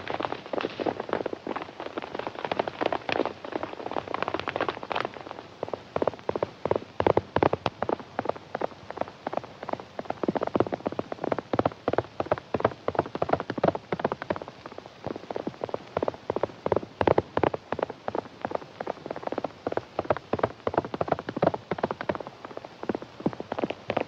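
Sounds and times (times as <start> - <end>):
galloping horse hooves: 0.0 - 24.0.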